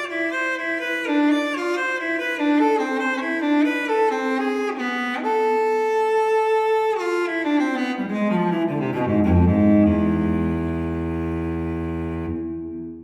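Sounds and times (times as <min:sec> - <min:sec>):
bowed string music: 0:00.0 - 0:13.0.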